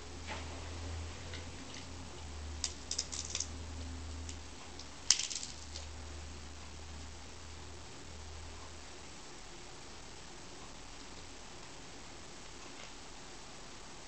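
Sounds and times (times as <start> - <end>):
steady low hum and hiss: 0.0 - 14.0.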